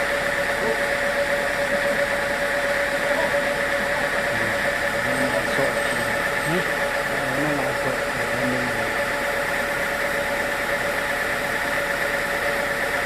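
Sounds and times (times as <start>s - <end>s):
machine whine: 0.0s - 13.0s
sawmill machinery hum: 0.0s - 13.0s.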